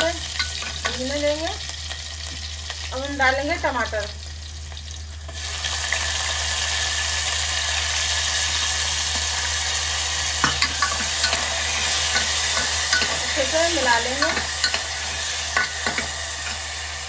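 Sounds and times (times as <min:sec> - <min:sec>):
tomatoes sizzling in hot fat: 0:00.0 - 0:17.0.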